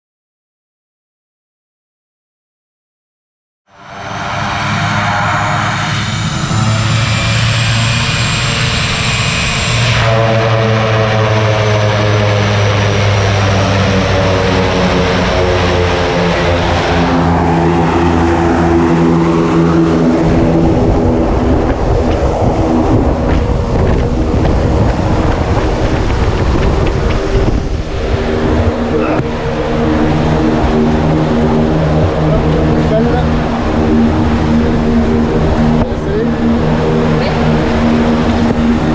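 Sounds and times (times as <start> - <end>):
propeller plane engine running: 3.7 - 38.9.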